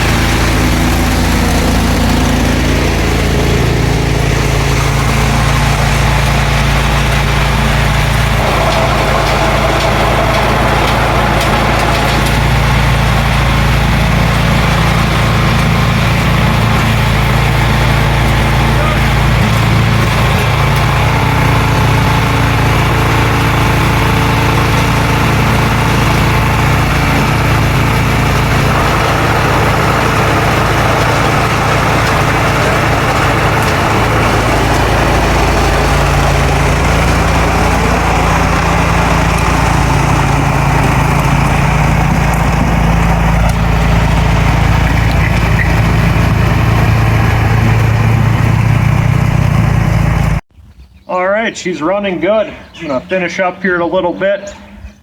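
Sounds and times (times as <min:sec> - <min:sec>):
snowblower engine running: 0:00.0 - 0:50.5.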